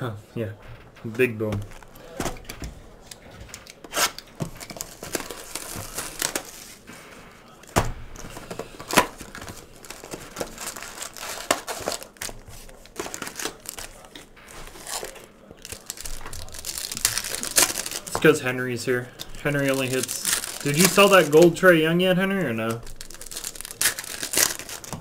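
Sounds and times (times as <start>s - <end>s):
card pack wrappers crinkling and tearing: 1.6s - 2.2s, 3.0s - 25.0s.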